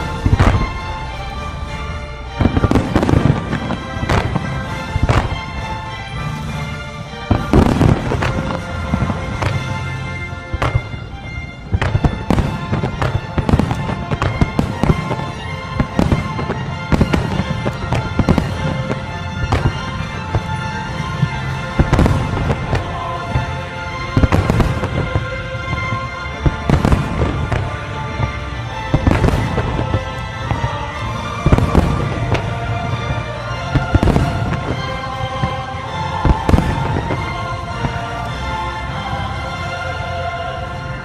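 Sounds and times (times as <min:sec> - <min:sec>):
fireworks booming: 0:00.0 - 0:41.0
fireworks crackling: 0:00.0 - 0:41.0
music: 0:00.0 - 0:41.0.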